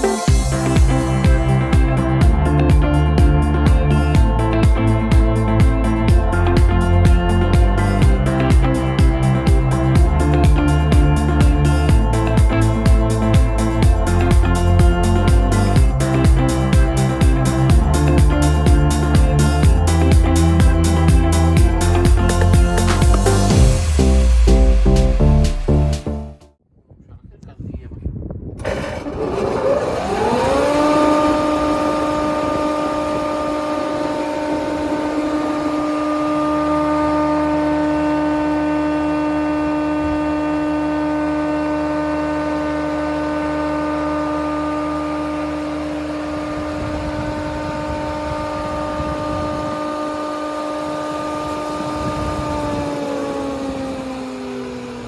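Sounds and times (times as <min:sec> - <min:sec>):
planer cutterhead whining: 0:00.0 - 0:24.5, 0:28.6 - 0:55.0
low drone: 0:00.0 - 0:26.4, 0:28.6 - 0:55.0.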